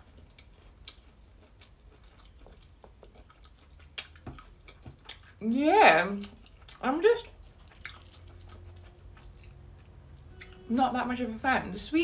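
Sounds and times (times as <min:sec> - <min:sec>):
wet chewing clicks: 0:00.1 - 0:05.4, 0:06.2 - 0:10.6.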